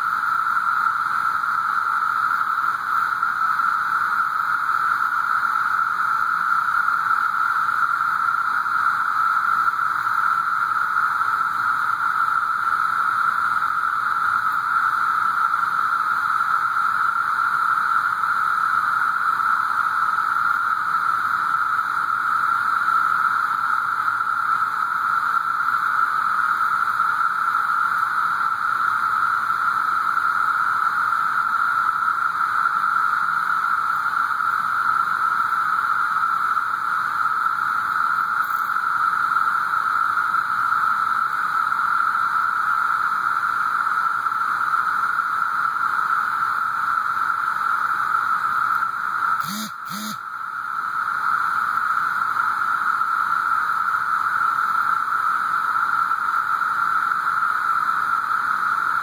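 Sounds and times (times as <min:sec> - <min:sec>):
cicadas chorus: 0:00.0 - 0:59.0.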